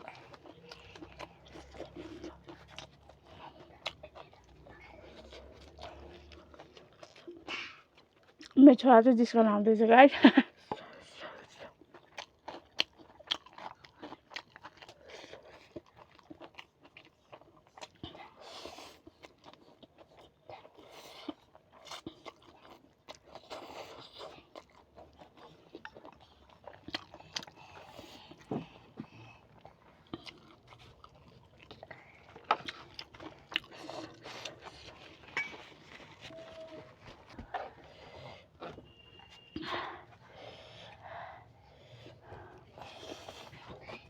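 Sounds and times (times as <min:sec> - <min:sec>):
crunching and chewing: 0:00.0 - 0:08.6, 0:10.6 - 0:44.0.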